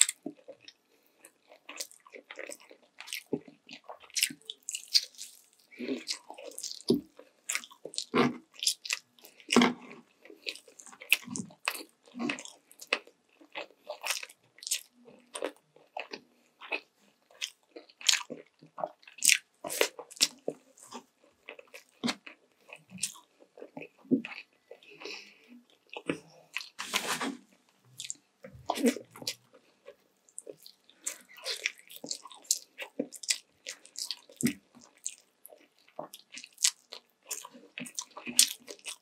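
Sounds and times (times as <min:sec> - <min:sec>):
person chewing with smacks: 0:00.0 - 0:39.0.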